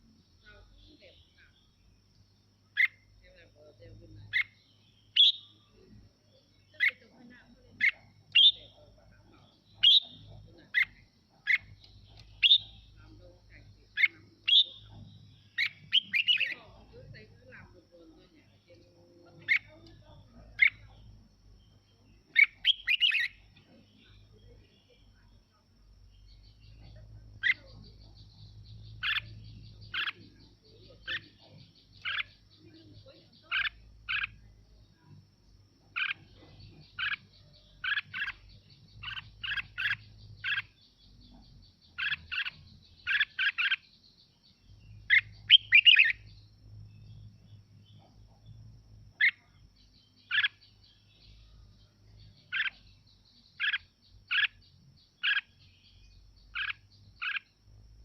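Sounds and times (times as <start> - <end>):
bulbul singing sharp phrases: 0.0 - 58.0.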